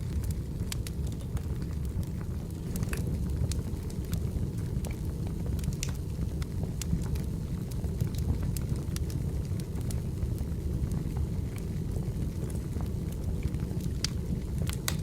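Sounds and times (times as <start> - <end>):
firewood crackling and popping: 0.0 - 15.0
low rumble of flames: 0.0 - 15.0.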